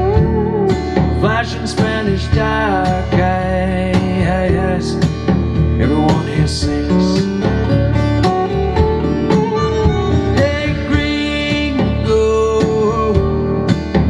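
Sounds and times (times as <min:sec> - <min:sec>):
person singing: 0:00.0 - 0:05.1, 0:05.7 - 0:13.7
country song with guitar: 0:00.0 - 0:14.0
steady beat: 0:00.0 - 0:14.0.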